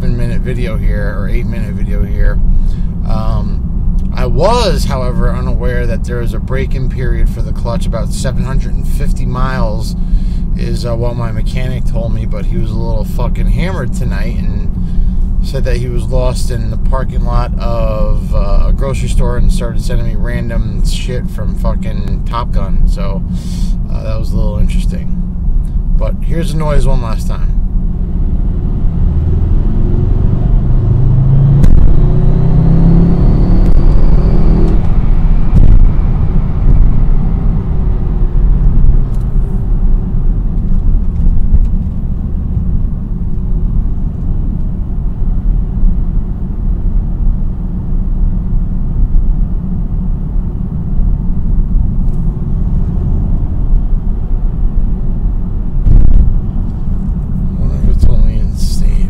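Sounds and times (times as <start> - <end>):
car engine revving: 0.0 - 59.0
road rumble: 0.0 - 59.0.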